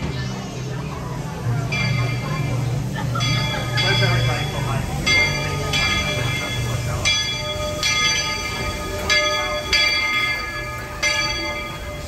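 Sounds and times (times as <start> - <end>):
locomotive bell ringing: 1.2 - 12.0.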